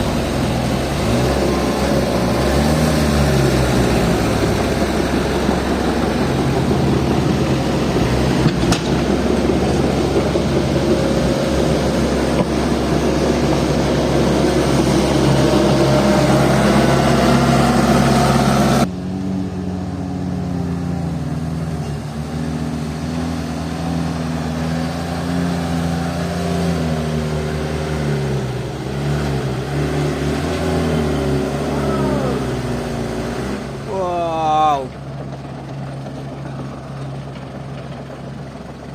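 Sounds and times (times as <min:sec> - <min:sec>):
heavy diesel engines running hard: 0:00.0 - 0:38.9.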